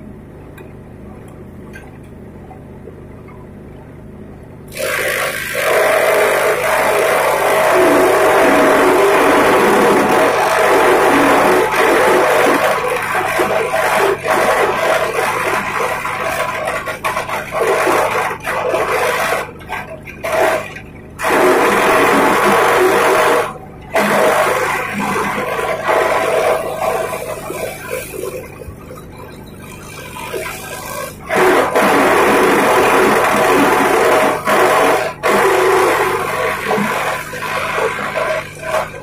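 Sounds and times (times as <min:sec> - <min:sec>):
grass chopper machine running: 0:04.5 - 0:39.0.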